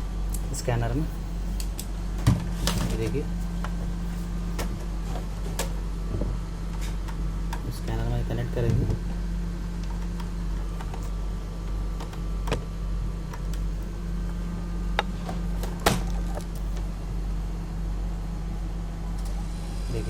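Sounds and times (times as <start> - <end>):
scanner motor humming: 0.0 - 20.0.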